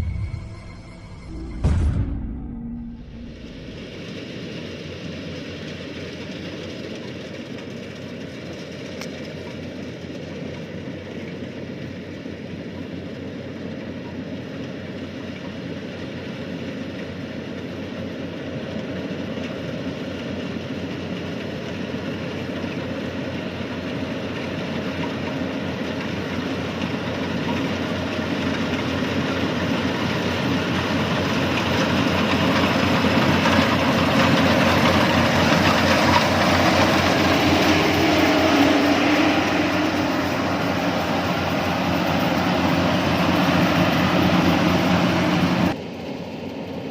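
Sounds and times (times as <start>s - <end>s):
combine harvester droning: 0.0s - 46.9s.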